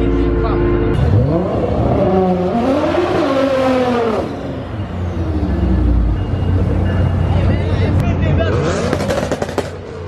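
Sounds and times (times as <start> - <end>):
car accelerating with loud exhaust: 0.9 - 10.0.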